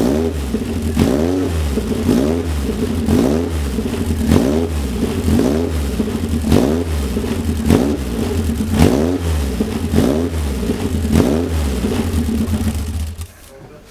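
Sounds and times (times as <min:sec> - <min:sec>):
car engine revving: 0:00.0 - 0:13.4.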